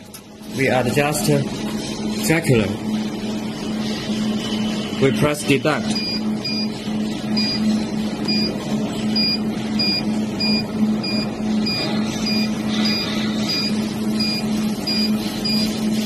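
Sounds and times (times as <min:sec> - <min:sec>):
machine low hum: 0:00.0 - 0:16.0.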